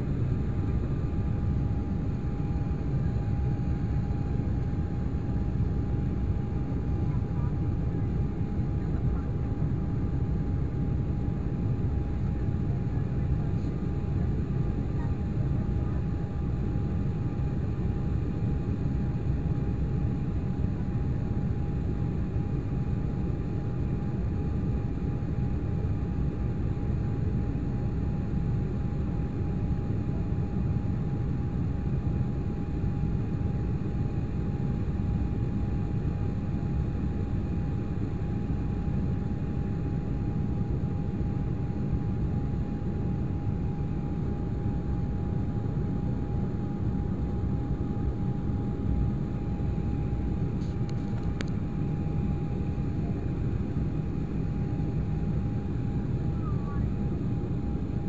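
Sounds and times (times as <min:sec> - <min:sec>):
jet cabin engine rumble: 0:00.0 - 0:58.0
thin steady whine: 0:00.0 - 0:58.0.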